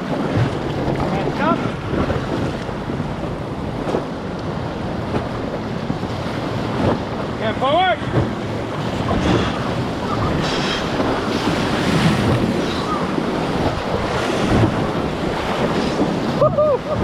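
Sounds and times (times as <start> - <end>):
whitewater rushing and splashing: 0.0 - 17.0
wind buffeting microphone: 0.0 - 17.0.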